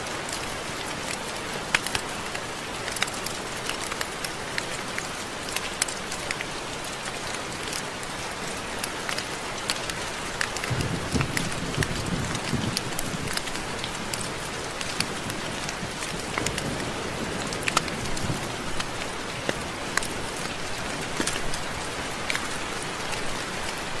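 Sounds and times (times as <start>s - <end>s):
rain falling: 0.0s - 24.0s
raindrops tapping on a surface: 0.0s - 24.0s.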